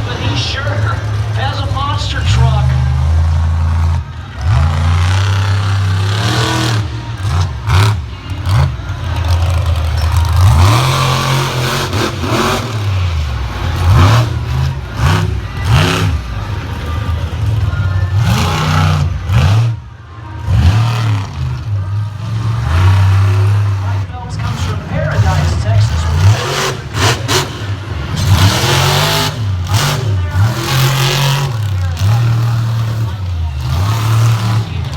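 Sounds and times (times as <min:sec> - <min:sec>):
truck engine revving: 0:00.0 - 0:34.9.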